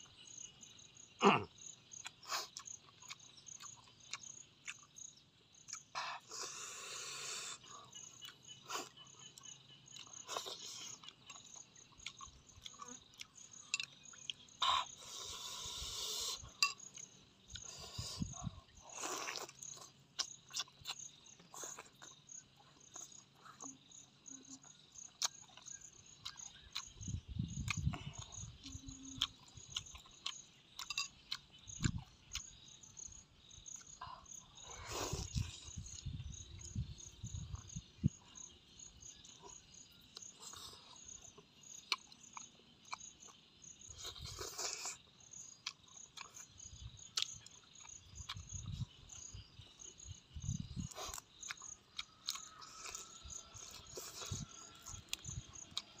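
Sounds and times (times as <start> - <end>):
chewing and crunching food: 0.0 - 56.0
crickets chirping: 0.0 - 56.0.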